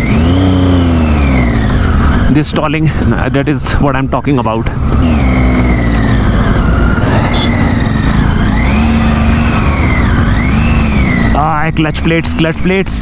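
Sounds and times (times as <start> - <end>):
motorcycle engine revving: 0.0 - 3.4, 4.6 - 13.0.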